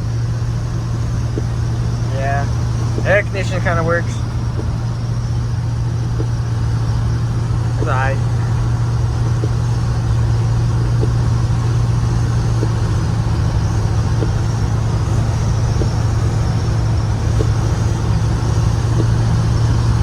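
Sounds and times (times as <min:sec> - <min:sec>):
low engine drone: 0:00.0 - 0:20.0
road noise: 0:00.0 - 0:20.0.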